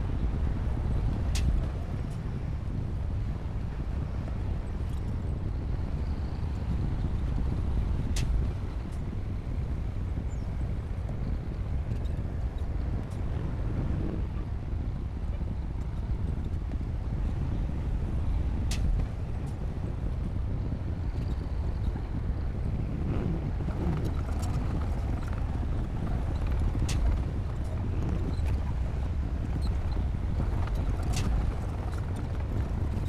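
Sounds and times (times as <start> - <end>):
bulldozer diesel engine rumbling: 0.1 - 33.0.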